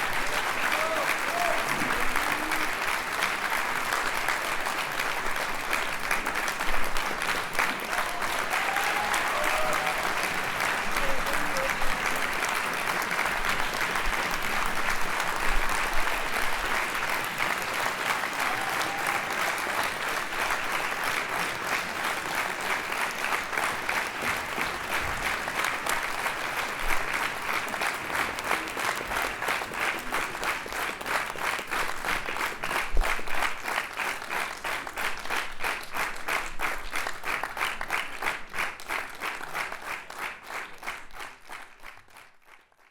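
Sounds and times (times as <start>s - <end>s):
crowd applauding: 0.0s - 42.9s.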